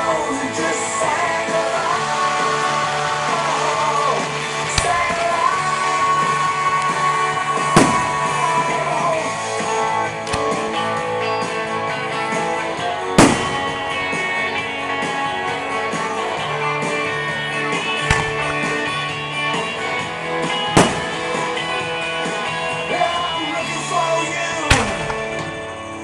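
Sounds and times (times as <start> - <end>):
song with singing and guitar: 0.0 - 26.0
firework bangs: 2.2 - 16.0, 16.6 - 26.0.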